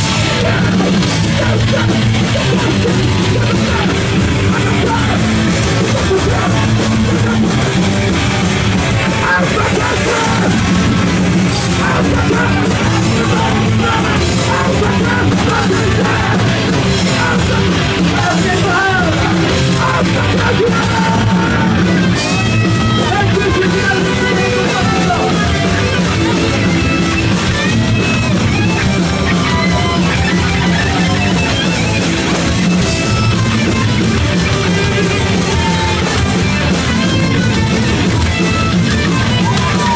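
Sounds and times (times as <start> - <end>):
distorted electric guitars: 0.0 - 39.9
drums: 0.0 - 39.9
shouted vocals: 0.0 - 39.9.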